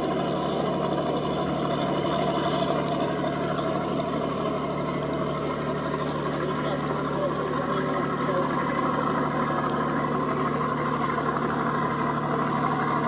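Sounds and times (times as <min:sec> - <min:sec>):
boat engine running: 0:00.0 - 0:13.0
water rushing along hull: 0:00.0 - 0:13.0.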